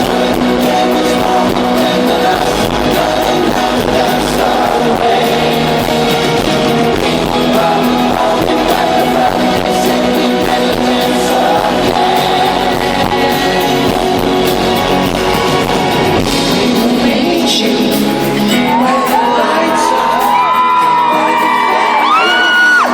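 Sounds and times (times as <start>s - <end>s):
live pop-rock band with singing: 0.0s - 22.9s.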